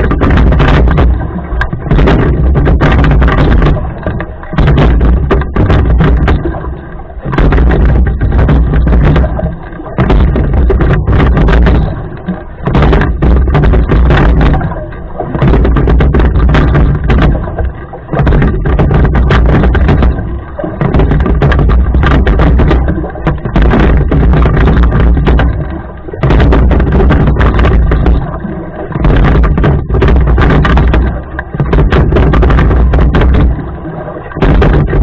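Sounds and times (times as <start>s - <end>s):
oars knocking in oarlocks: 0.0s - 35.0s
water rushing past boat: 0.0s - 35.0s.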